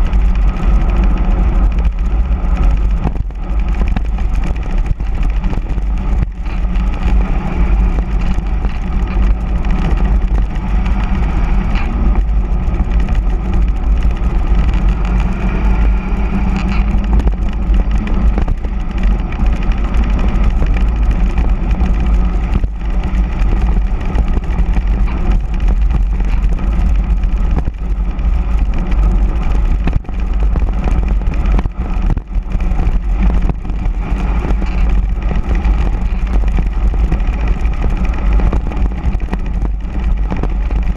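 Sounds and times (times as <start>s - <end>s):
bike tyres rolling on asphalt: 0.0s - 40.9s
wind buffeting microphone: 0.0s - 40.9s.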